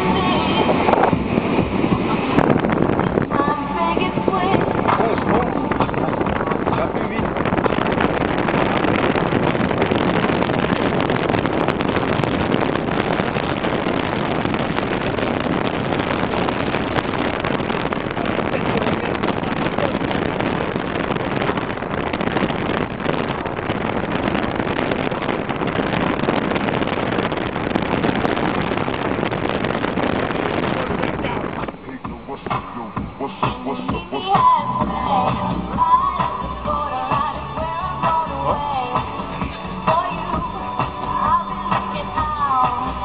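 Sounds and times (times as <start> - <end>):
car road and wind noise: 0.0 - 43.0.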